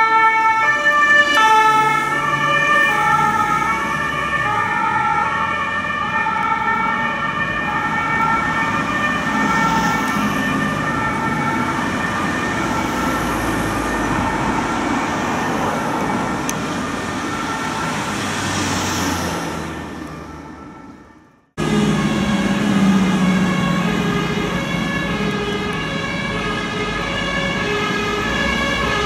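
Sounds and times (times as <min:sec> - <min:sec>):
engine and road noise: 0:00.0 - 0:29.0
two-tone siren: 0:00.0 - 0:29.0.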